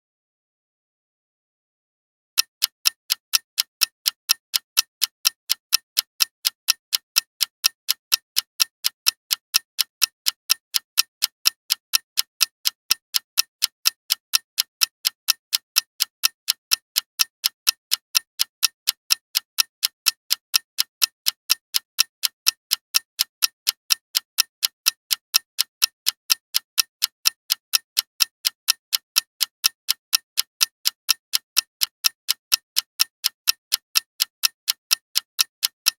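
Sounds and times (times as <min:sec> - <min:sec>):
clock ticking: 0:02.4 - 0:35.9.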